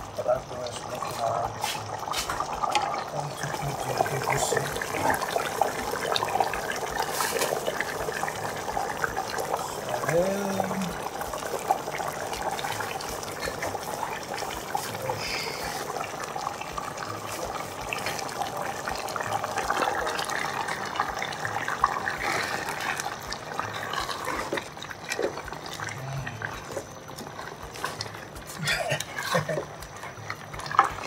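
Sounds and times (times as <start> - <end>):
soup simmering and bubbling: 0.0 - 31.0.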